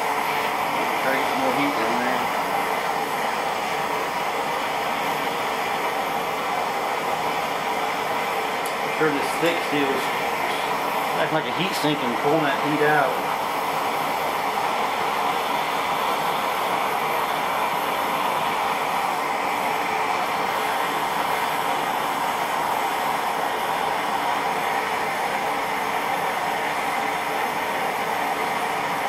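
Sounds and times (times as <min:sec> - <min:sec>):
forge burner flame rushing: 0:00.0 - 0:29.0.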